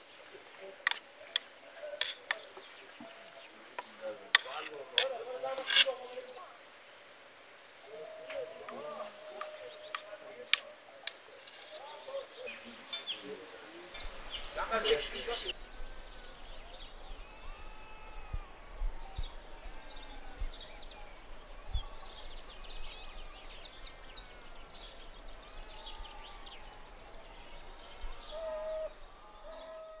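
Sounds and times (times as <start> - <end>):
faint outdoor hiss: 0.0 - 29.8
birds singing and trilling: 0.0 - 30.0.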